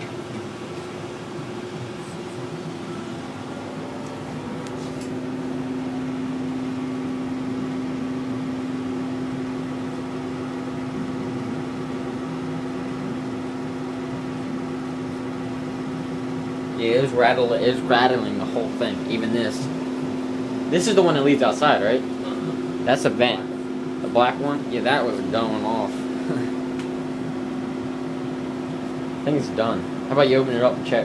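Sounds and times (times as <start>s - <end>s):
furnace humming: 0.0s - 31.0s.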